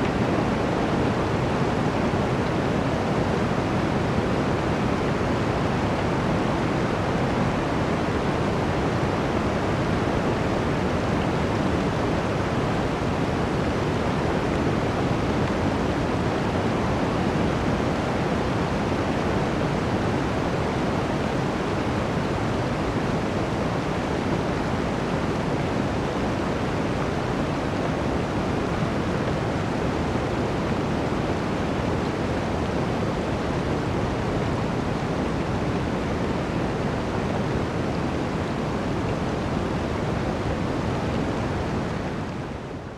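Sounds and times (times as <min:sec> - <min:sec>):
wind roaring through forest: 0:00.0 - 0:42.9.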